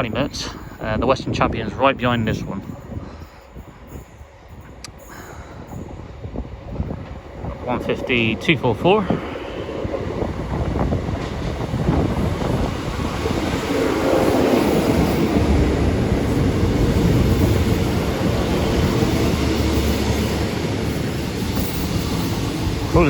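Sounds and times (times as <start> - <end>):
diesel train engines: 0.0 - 23.0
train wheels on rails: 2.3 - 23.0.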